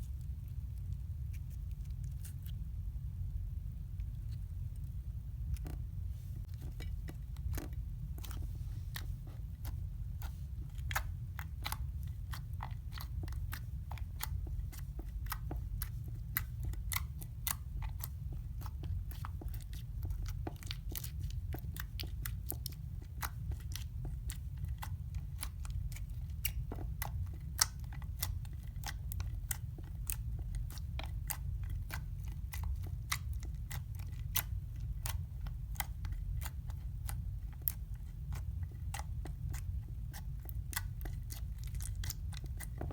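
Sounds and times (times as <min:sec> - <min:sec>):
steady low rumble: 0:00.0 - 0:42.9
slime clicking and crackling: 0:06.5 - 0:42.9.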